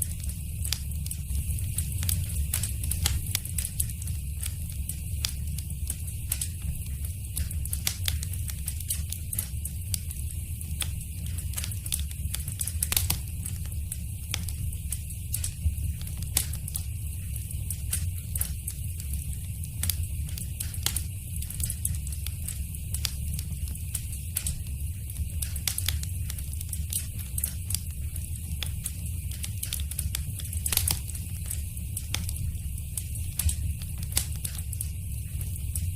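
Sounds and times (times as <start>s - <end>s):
low rumble of flames: 0.0s - 35.9s
wood fire crackling and popping: 0.0s - 35.9s.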